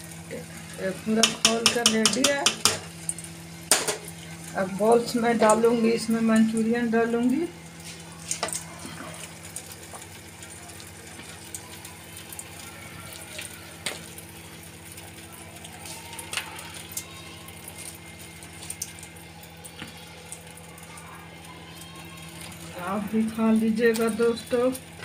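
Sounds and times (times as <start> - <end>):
gravy bubbling in a pan: 0.0 - 25.0.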